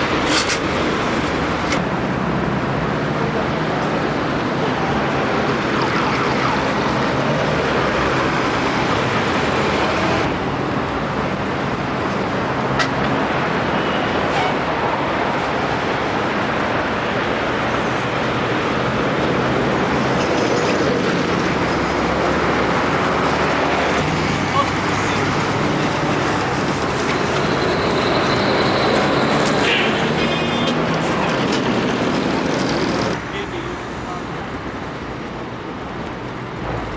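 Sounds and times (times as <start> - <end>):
road traffic roar: 0.0 - 36.9.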